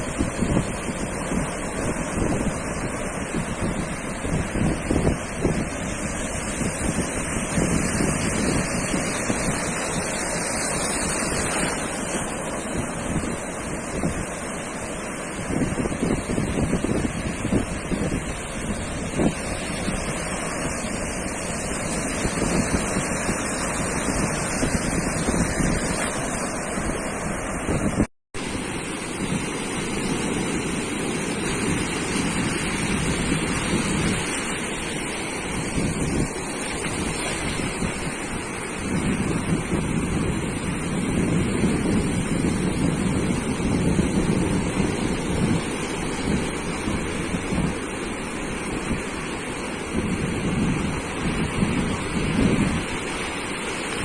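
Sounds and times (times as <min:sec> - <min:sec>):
surf washing onto beach: 0:00.0 - 0:54.0
wind buffeting microphone: 0:00.0 - 0:54.0.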